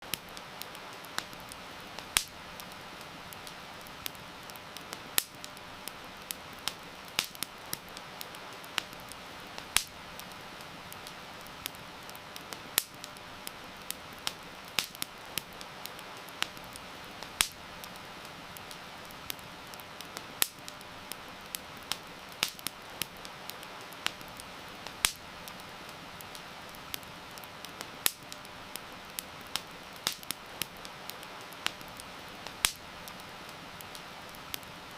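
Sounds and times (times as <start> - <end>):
heavy rain hissing: 0.0 - 34.9
wood fire crackling: 0.0 - 34.9.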